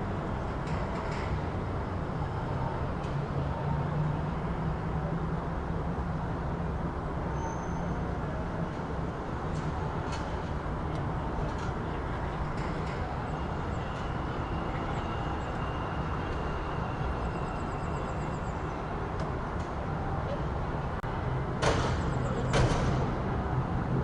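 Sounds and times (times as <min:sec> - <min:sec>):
passing vehicles: 0:00.0 - 0:24.0.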